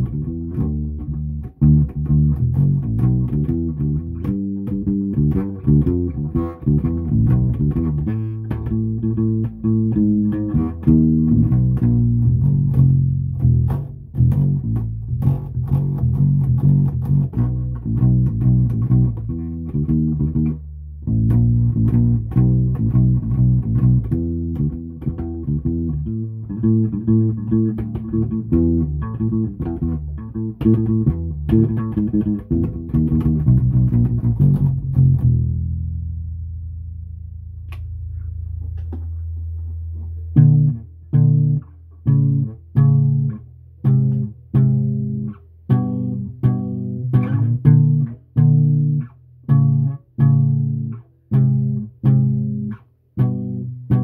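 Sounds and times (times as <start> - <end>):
electric bass guitar plucked: 0.0 - 54.0.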